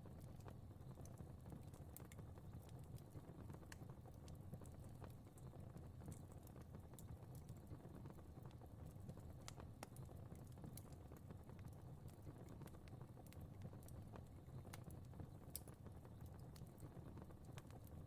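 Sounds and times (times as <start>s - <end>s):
fire crackling faintly: 0.0s - 18.0s.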